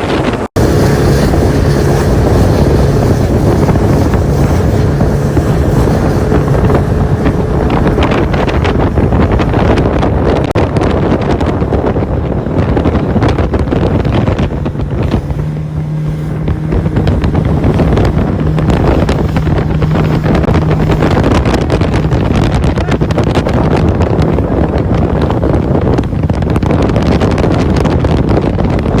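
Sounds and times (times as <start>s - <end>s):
motorboat engine hum: 0.0s - 29.0s
wind buffeting microphone: 0.0s - 29.0s.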